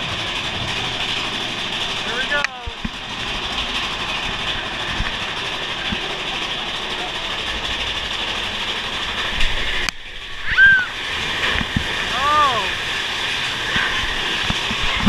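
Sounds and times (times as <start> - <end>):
roller coaster rumbling on rails: 0.0 - 15.0.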